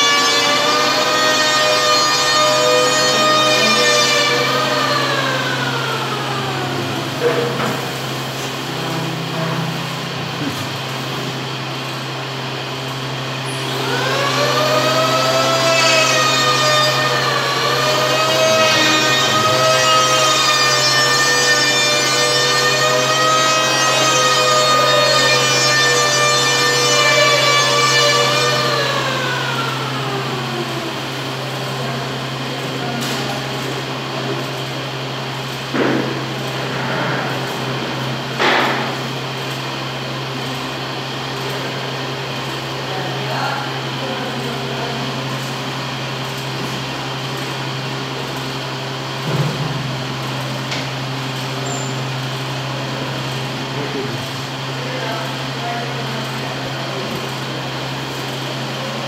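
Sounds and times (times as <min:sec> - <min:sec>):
electric fan humming: 0:00.0 - 0:59.0.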